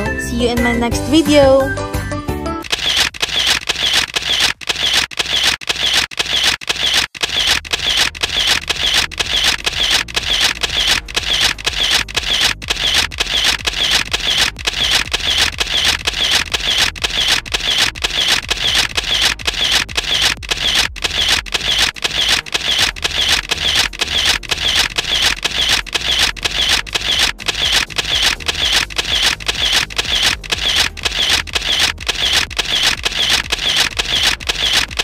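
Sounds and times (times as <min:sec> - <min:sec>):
camera shutter clicks: 0:02.6 - 0:35.0.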